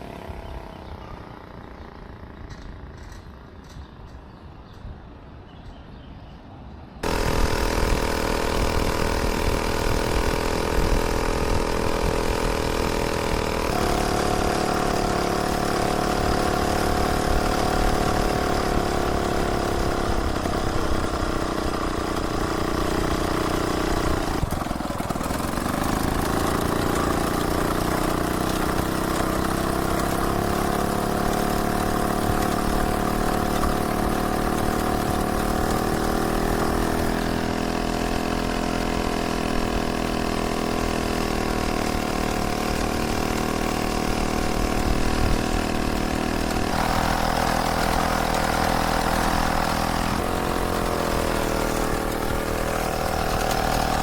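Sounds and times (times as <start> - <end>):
moped two-stroke engine running: 0.0 - 4.2, 7.0 - 54.0.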